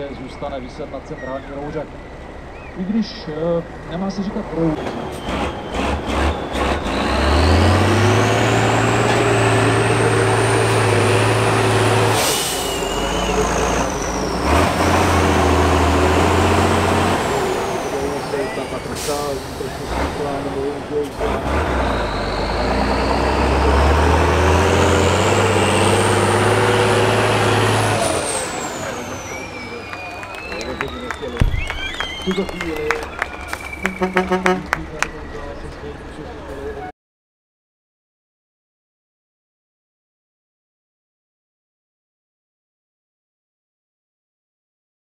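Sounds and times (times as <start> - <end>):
diesel truck engine revving: 0.0 - 36.8.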